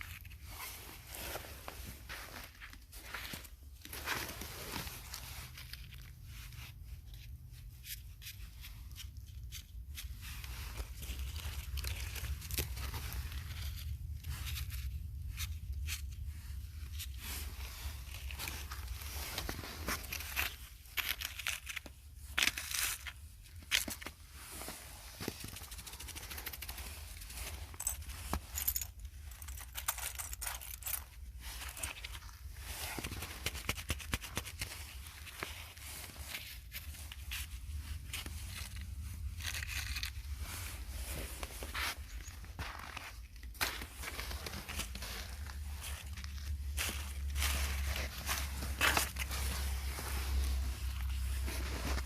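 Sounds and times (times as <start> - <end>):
crackling and crinkling handling: 0.0 - 52.0.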